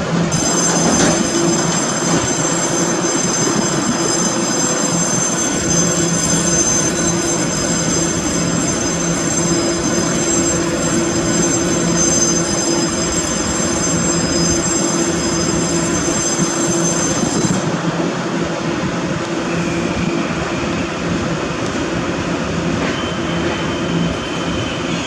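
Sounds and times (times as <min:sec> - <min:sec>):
train rumbling along platform: 0:00.0 - 0:25.0.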